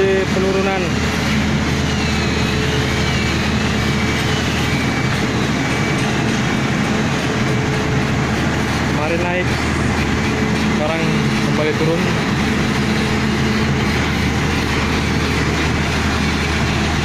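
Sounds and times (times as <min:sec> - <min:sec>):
heavy machinery engine drone: 0:00.0 - 0:17.0.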